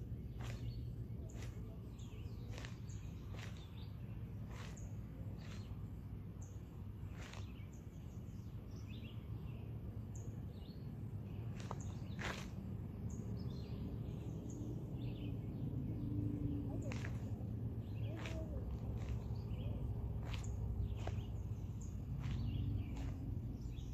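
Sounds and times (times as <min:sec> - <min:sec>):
birds chirping: 0:00.0 - 0:23.9
low background rumble: 0:00.0 - 0:23.9.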